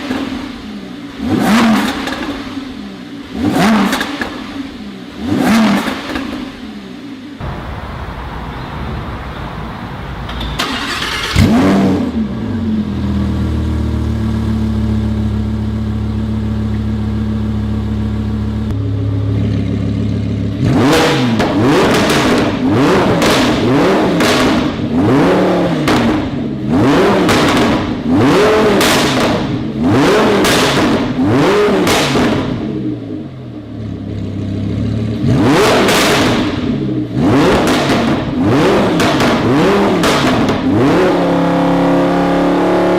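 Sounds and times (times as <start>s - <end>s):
car engine revving and idling: 0.0s - 7.5s, 10.3s - 42.9s.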